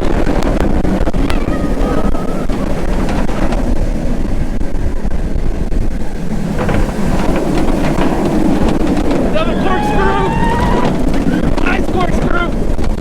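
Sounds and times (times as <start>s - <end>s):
roller coaster train on track: 0.0s - 13.0s
wind rushing over microphone: 0.0s - 13.0s.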